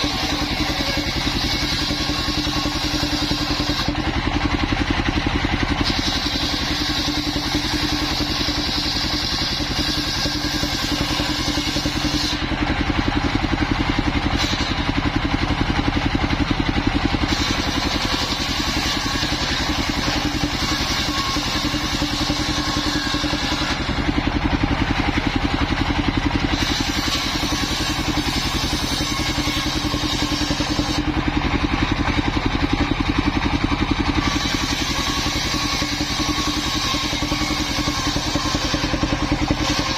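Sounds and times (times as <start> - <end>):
circular saw blade cutting wood: 0.0 - 39.9
small engine running: 0.0 - 39.9.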